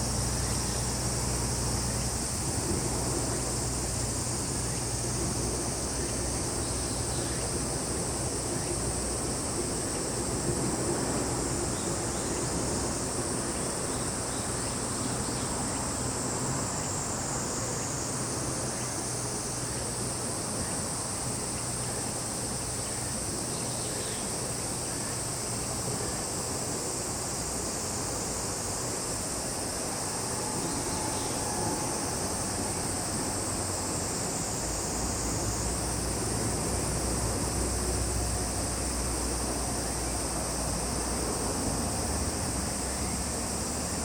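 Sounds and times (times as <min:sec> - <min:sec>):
insects shrill drone: 0:00.0 - 0:44.0.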